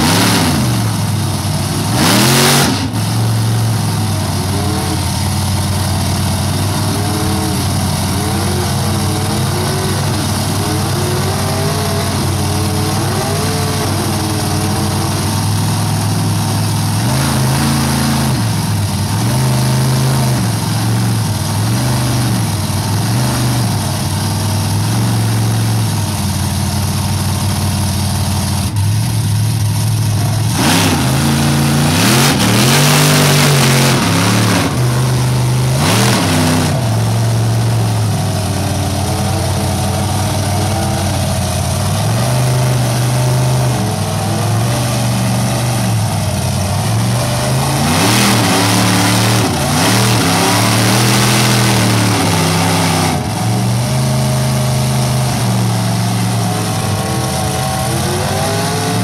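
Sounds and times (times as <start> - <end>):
low engine drone: 0.0 - 59.0
tires spinning in mud: 0.0 - 59.0
truck engines revving: 0.0 - 59.0.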